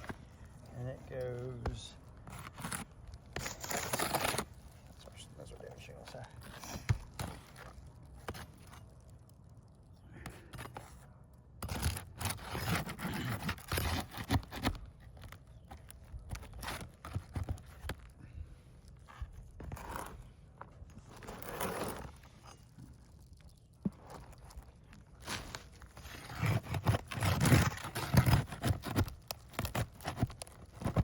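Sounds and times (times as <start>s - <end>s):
roof shingles scraped and torn: 0.0s - 9.6s, 10.3s - 18.2s, 18.8s - 31.0s.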